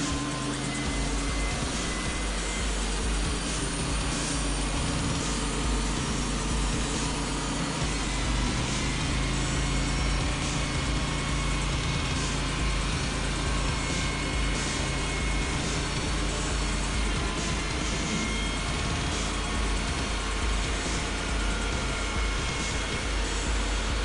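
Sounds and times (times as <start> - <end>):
sawmill engine sawing logs: 0.0 - 24.0.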